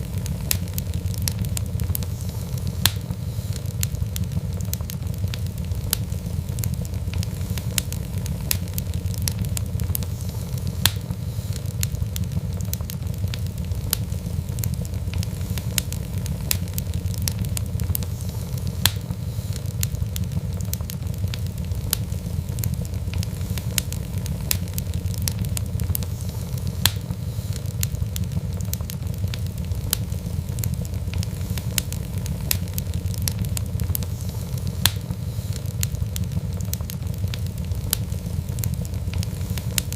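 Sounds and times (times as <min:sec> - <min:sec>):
fire crackles and pops: 0:00.0 - 0:39.9
loud fire snaps: 0:00.0 - 0:39.9
low rumble of flame: 0:00.0 - 0:39.9.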